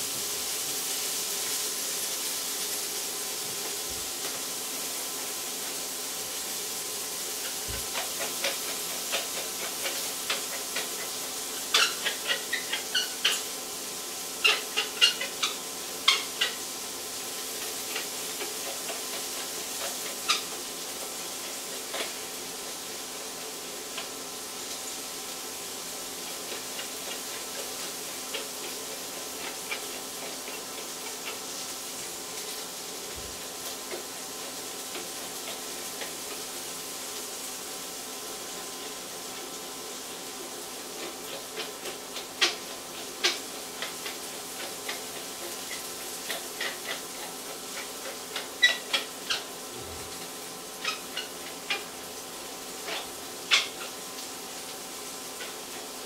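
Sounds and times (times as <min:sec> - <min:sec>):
beans sizzling in a pan: 0:00.0 - 0:56.0.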